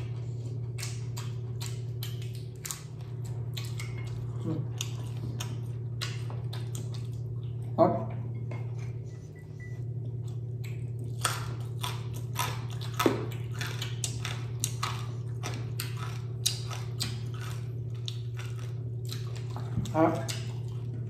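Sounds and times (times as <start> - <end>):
chewing crispy chicken skin: 0.0 - 7.8, 9.8 - 21.0
steady low hum: 0.0 - 21.0.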